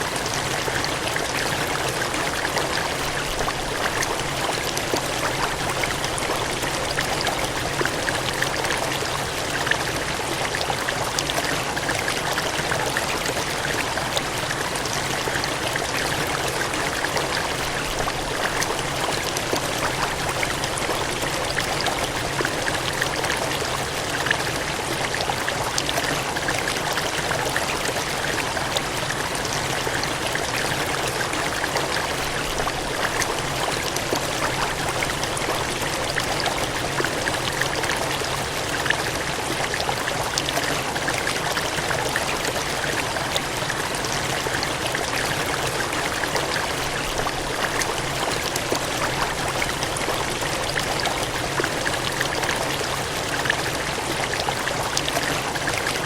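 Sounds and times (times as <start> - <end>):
cascading water gushing: 0.0 - 56.0.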